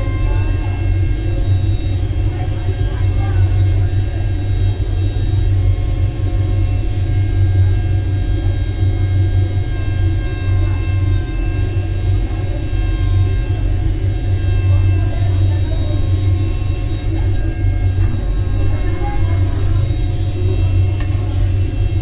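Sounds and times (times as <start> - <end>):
low hum and rumble: 0.0 - 22.0.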